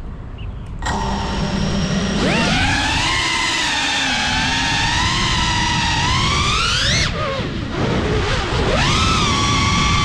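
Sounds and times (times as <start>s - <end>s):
drone motors whining: 0.8s - 10.0s.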